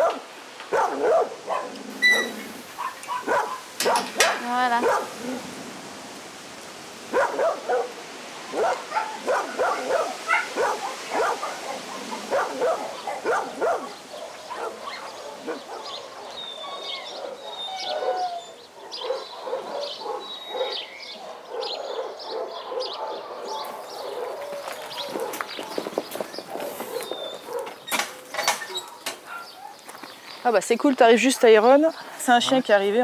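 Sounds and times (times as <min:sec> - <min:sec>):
dogs barking: 0:00.0 - 0:05.4, 0:07.1 - 0:30.0.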